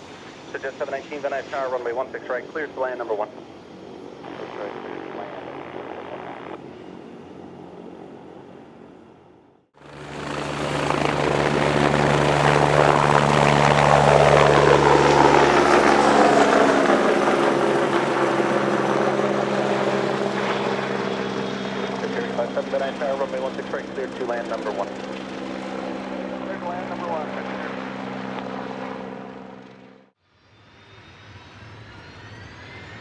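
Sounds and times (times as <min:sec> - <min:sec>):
aircraft engine passing: 0:00.0 - 0:33.0.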